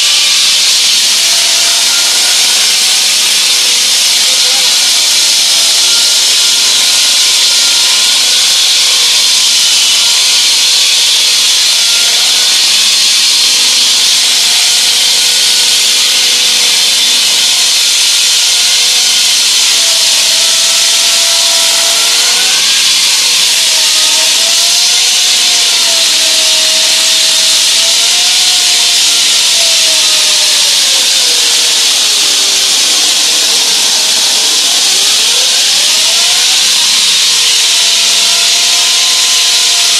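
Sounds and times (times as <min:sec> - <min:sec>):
wall saw cutting concrete: 0:00.0 - 0:39.9.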